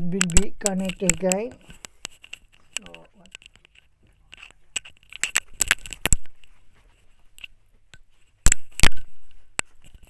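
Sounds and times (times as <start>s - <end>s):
sharp clicks and taps: 0.0s - 6.4s, 7.3s - 10.0s.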